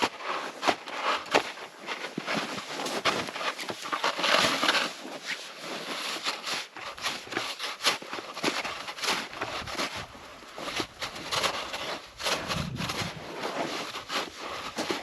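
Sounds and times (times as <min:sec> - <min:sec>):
snow crunching and scraping: 0:00.0 - 0:15.0.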